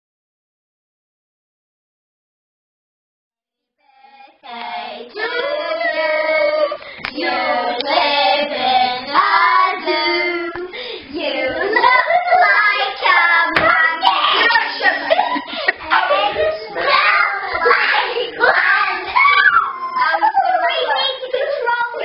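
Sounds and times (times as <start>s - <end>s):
girls singing and chattering: 3.9s - 22.0s.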